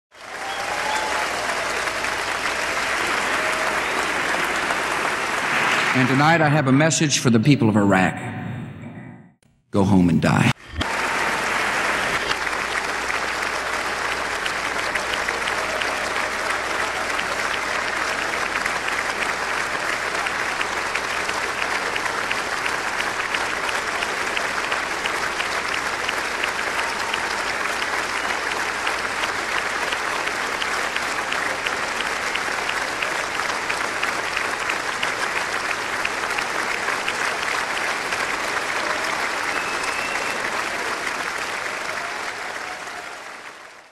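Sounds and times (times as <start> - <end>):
large audience applauding: 0.1 - 6.9, 10.5 - 43.9.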